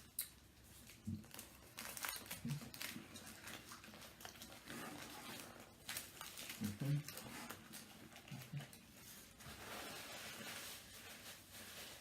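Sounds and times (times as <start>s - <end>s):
paper wrapper crinkling: 0.7s - 12.0s.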